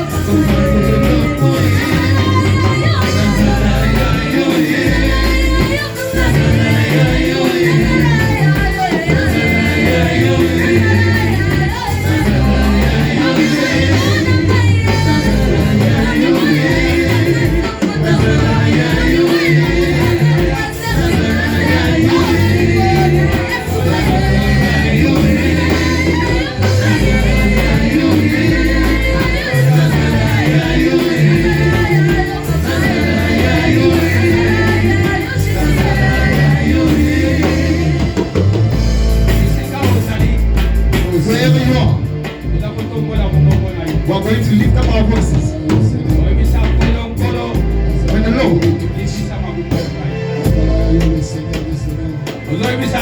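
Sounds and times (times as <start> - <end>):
band with bass and drums: 0.0 - 53.0
voices singing: 0.0 - 53.0.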